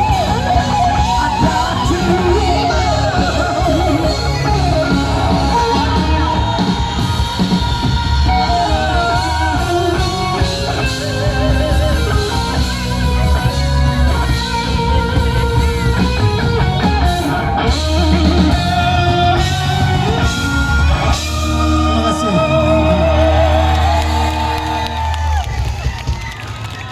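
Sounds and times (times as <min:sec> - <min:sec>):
lead electric guitar: 0:00.0 - 0:26.0
drums: 0:00.0 - 0:26.9.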